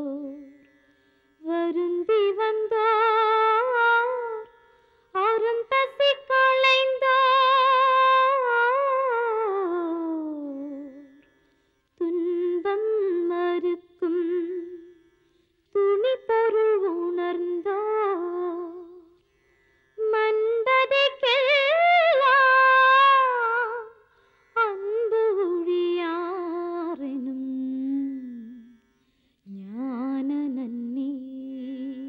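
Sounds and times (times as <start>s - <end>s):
woman singing unaccompanied: 0.0s - 0.6s, 1.4s - 11.2s, 12.0s - 15.0s, 15.7s - 19.1s, 20.0s - 24.0s, 24.6s - 28.8s, 29.4s - 32.0s.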